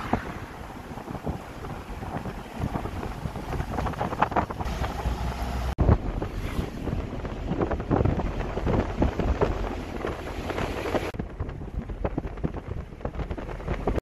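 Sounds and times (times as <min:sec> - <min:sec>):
vehicle rumbling: 0:00.0 - 0:14.0
wind buffeting microphone: 0:00.0 - 0:14.0.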